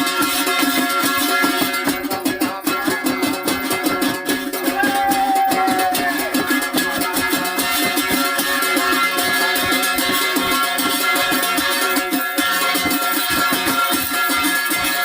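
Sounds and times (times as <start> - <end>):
folk dance music plucked strings: 0.0 - 15.0.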